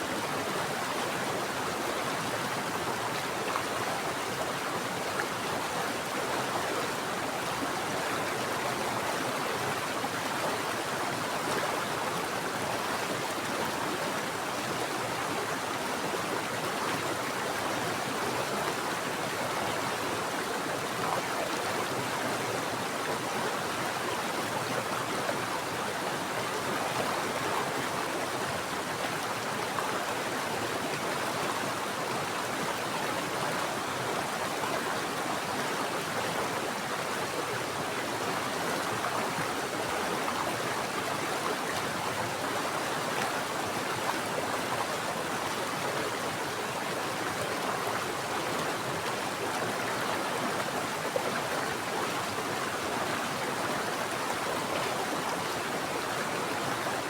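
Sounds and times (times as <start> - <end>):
mountain stream running: 0.0 - 57.0.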